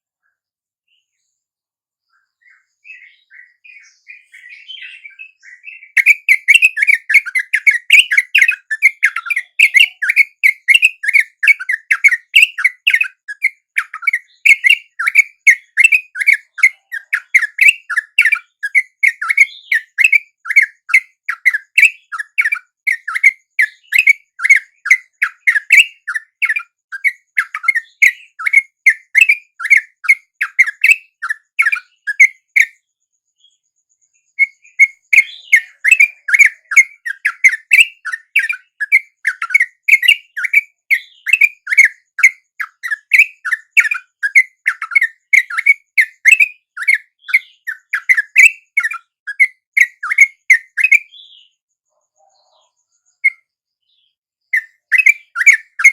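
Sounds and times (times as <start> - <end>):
bird chattering chirps: 2.4 - 32.8, 34.2 - 55.9.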